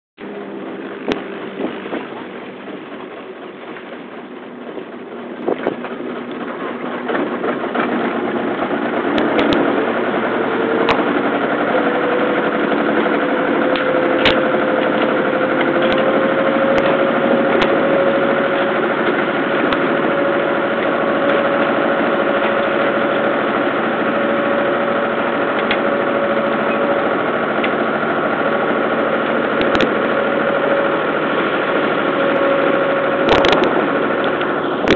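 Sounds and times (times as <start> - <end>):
boat engine droning: 0.2 - 34.9.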